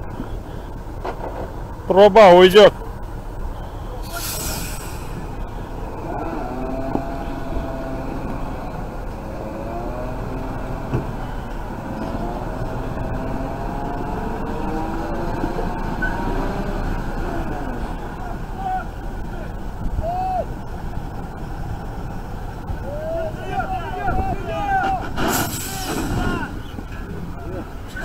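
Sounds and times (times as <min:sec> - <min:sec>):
truck engine running at low revs: 0:00.0 - 0:28.0.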